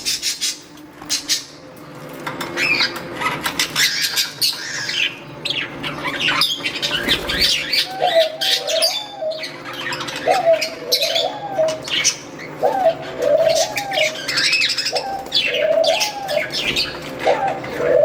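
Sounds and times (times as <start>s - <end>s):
budgerigars chirping: 2.6s - 18.0s.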